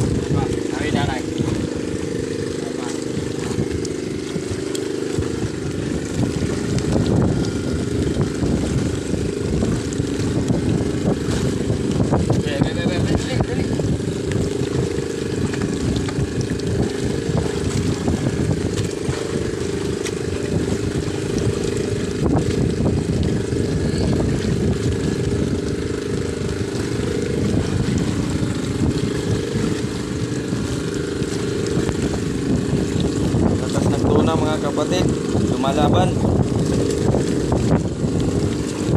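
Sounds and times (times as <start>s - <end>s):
sea: 0.0s - 38.9s
wind rumbling on microphone: 0.0s - 38.9s.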